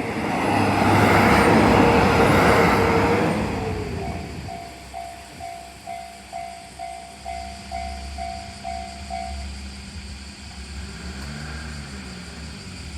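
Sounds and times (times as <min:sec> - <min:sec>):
diesel railcar rumble: 0:00.0 - 0:12.9.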